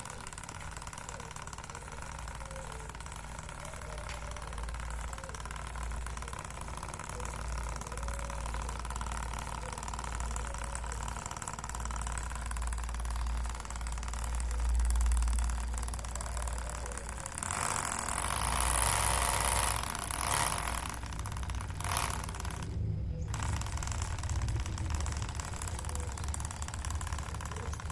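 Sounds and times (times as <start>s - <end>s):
small motor humming and whining: 0.0s - 27.9s.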